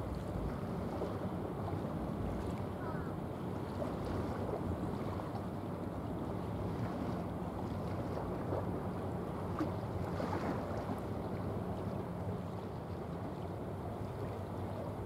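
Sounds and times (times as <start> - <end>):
ship engine low drone: 0.0 - 15.0
water noise: 0.0 - 15.0
wind: 0.0 - 15.0.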